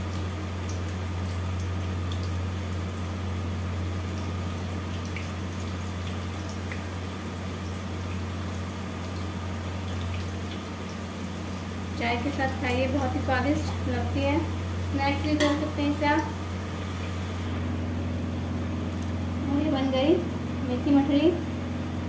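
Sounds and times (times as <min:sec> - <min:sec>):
low steady hum: 0:00.0 - 0:22.0
oil sizzling with frying dough: 0:00.0 - 0:22.0.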